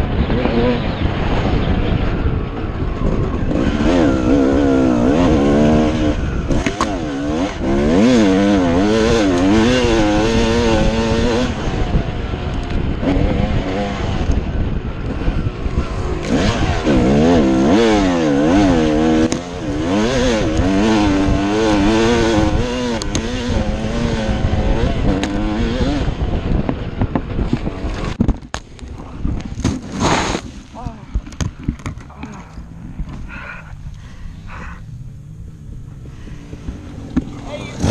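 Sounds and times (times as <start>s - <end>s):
dirt bike engine revving: 0.0s - 28.2s, 32.4s - 37.9s
heavy rushing noise: 0.0s - 37.9s.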